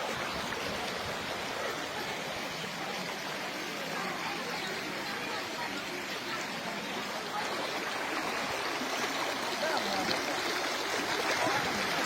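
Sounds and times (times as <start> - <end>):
water gushing from ground: 0.0 - 12.0.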